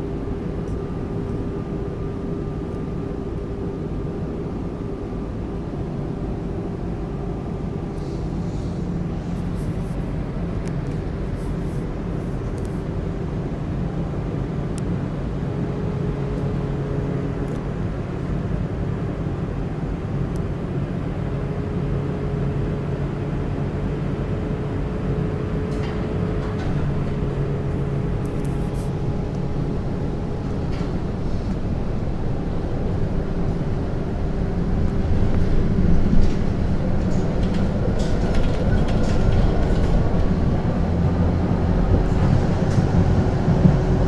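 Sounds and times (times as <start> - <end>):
tram wheels rumbling on rails: 0.0 - 44.0.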